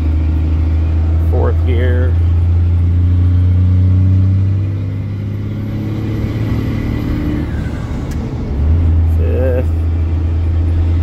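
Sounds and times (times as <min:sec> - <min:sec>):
truck engine accelerating: 0:00.0 - 0:11.0.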